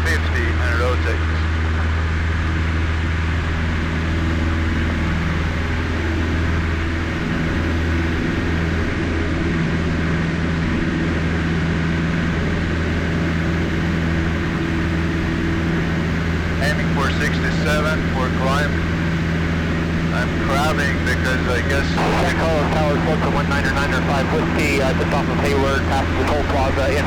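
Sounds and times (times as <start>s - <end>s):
airplane engine droning: 0.0s - 27.0s.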